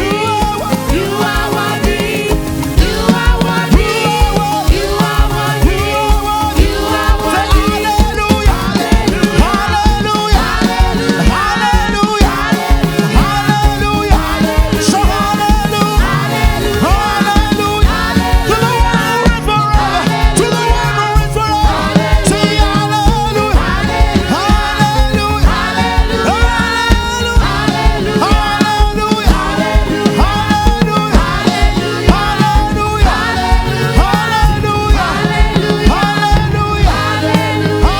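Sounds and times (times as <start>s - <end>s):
live gospel band playing: 0.0s - 37.9s.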